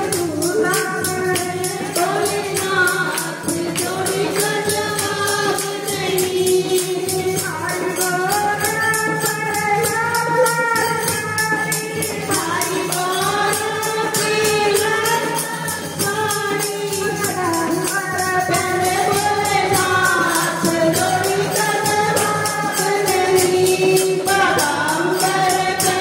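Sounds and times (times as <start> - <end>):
steady percussion beat: 0.0 - 26.0
woman singing devotional song: 0.0 - 26.0.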